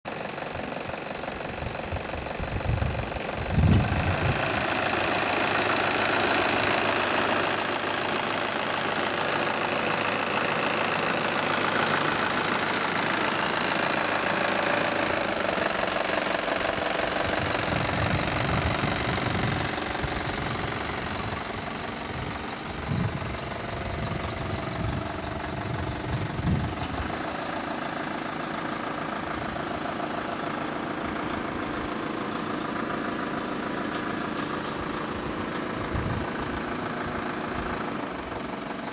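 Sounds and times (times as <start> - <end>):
diesel engine clattering: 0.1 - 38.9.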